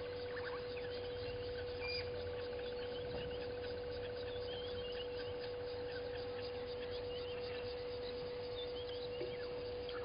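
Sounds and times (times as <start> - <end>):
bird chirps: 0.0 - 10.0
steady high hum: 0.0 - 10.0.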